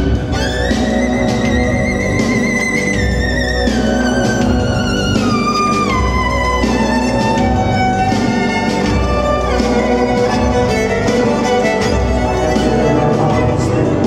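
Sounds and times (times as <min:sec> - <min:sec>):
guitar: 0:00.0 - 0:14.0
low rhythmic accompaniment: 0:00.0 - 0:14.0
violin melody: 0:00.0 - 0:14.0.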